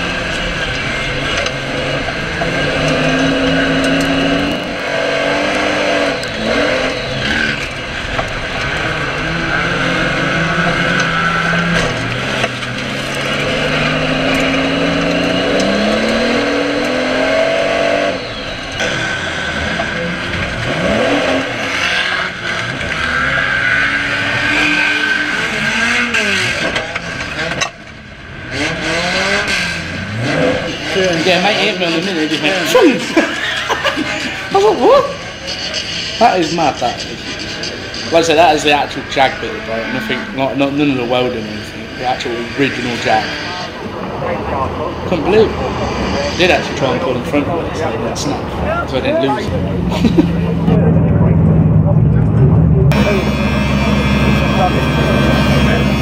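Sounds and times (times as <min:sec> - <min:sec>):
cars crashing together: 0:00.0 - 0:56.0
race car engines revving: 0:00.0 - 0:56.0.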